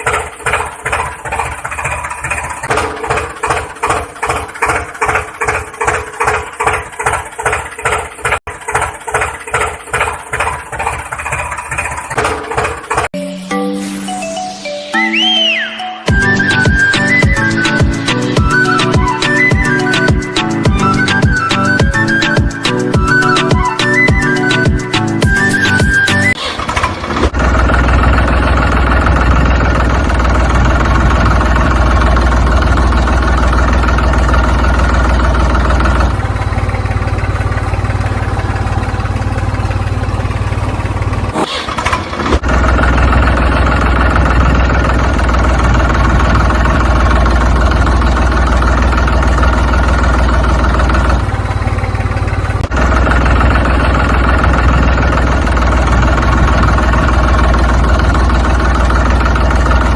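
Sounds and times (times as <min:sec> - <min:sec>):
engine idling: 0:00.0 - 0:13.1, 0:16.1 - 0:59.9.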